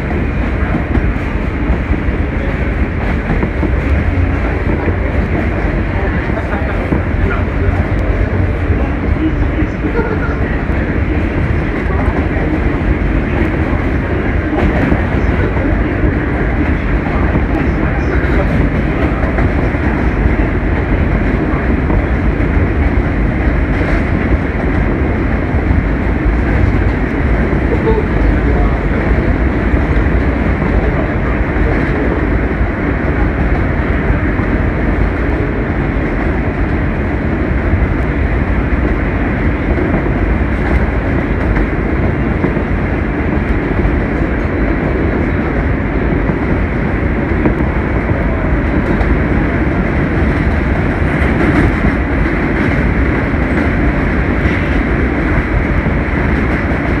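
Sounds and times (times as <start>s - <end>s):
train rolling noise inside car: 0.0s - 57.0s.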